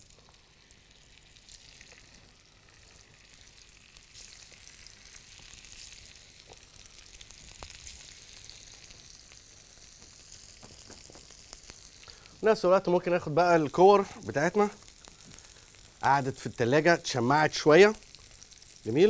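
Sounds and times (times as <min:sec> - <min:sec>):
potatoes sizzling in oil: 0:00.0 - 0:19.0.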